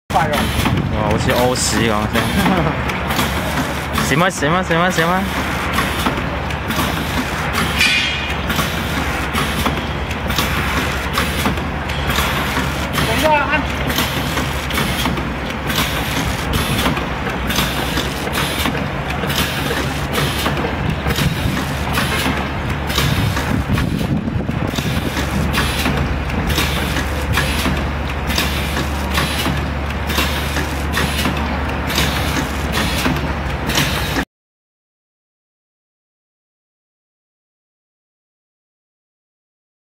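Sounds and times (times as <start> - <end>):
machine knocking: 0.1 - 34.2
packing machine hum: 0.1 - 34.2.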